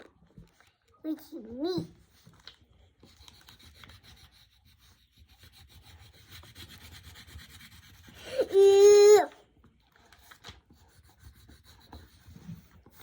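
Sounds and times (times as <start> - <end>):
coloured pencil scratching on paper: 1.3 - 9.3, 10.3 - 13.0.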